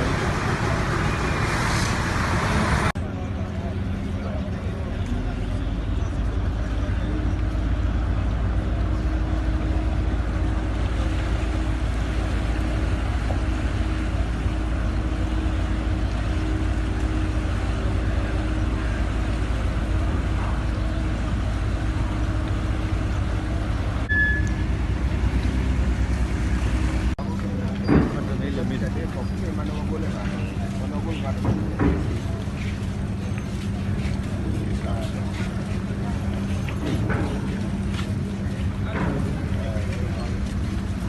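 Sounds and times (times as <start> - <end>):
large engine rumbling: 0.0 - 41.0.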